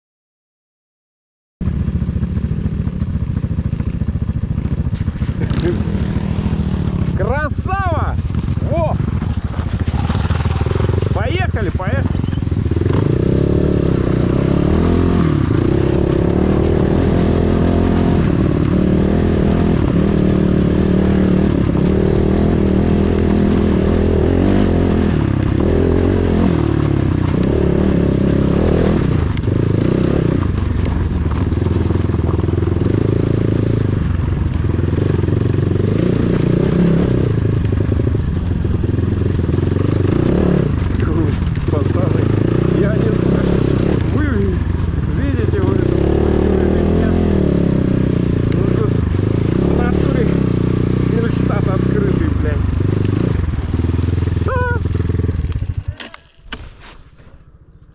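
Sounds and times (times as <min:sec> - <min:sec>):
motorcycle engine revving: 0:01.6 - 0:57.9.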